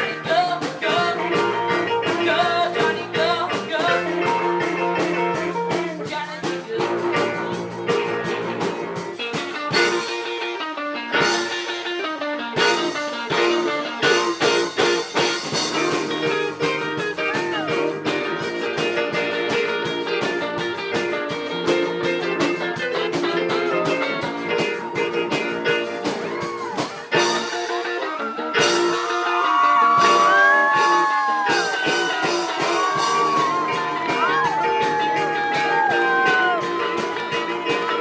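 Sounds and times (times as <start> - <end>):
lead electric guitar bent notes: 0.0 - 38.0
live rock band playing: 0.0 - 38.0.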